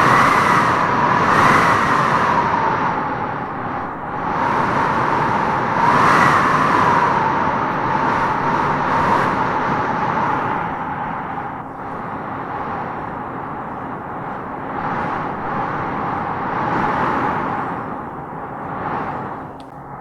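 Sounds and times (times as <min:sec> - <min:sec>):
wind howling through trees: 0:00.0 - 0:20.0.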